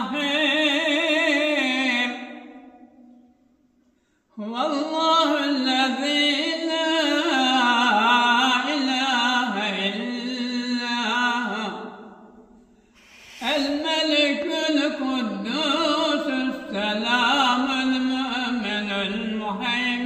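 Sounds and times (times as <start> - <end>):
man chanting melodically: 0.0 - 3.0, 4.4 - 12.4, 13.4 - 20.0.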